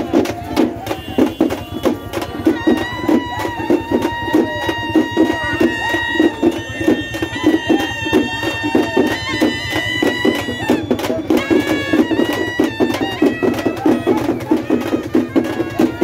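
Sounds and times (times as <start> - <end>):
fast steady drumming: 0.0 - 16.0
reed wind instrument melody: 0.0 - 16.0.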